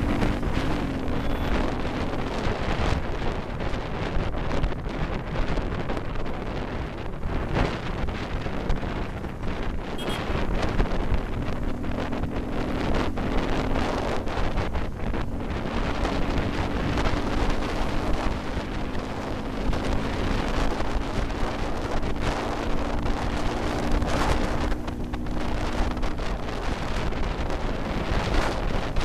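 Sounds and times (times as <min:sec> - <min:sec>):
motorcycle engine hum: 0:00.0 - 0:29.0
wind buffeting microphone: 0:00.0 - 0:29.0.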